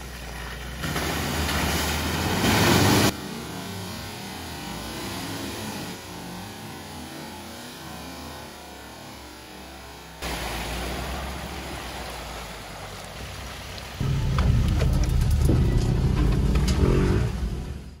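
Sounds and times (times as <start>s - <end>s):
tyres splashing through mud: 0.0s - 7.1s, 10.2s - 17.8s
truck engine rumble: 0.0s - 7.6s, 10.1s - 18.0s.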